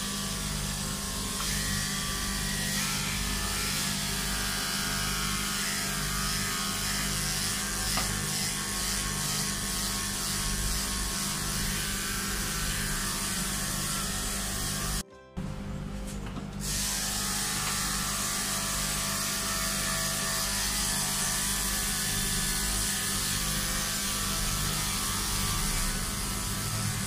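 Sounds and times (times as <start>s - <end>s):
electric clipper running: 0.0s - 27.0s.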